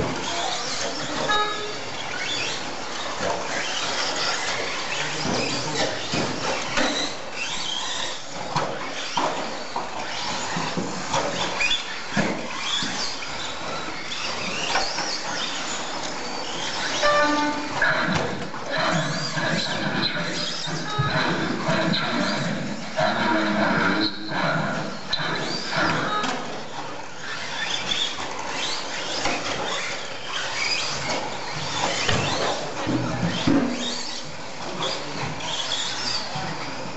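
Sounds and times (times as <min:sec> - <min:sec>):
rc truck motors whining: 0:00.0 - 0:36.9.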